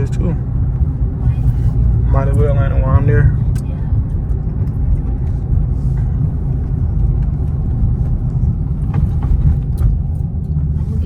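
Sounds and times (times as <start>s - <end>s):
engine low rumble: 0.0s - 11.0s
road noise: 0.0s - 11.0s.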